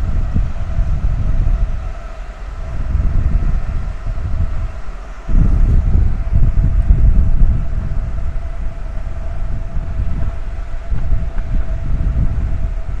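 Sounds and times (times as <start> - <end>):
rush of ship's wake: 0.0 - 13.0
steady mechanical hum: 0.0 - 13.0
wind buffeting microphone: 0.0 - 13.0.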